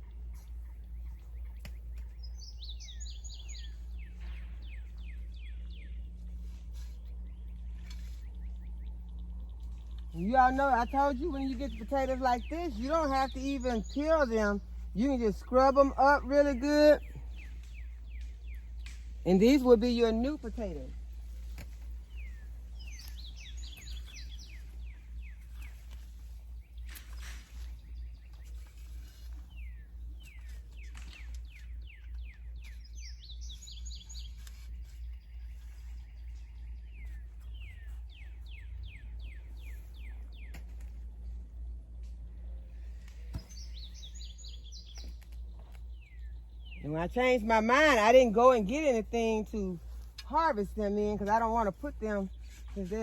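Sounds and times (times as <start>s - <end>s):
songbird singing: 0.0s - 53.0s
steady low rumble: 0.0s - 53.0s.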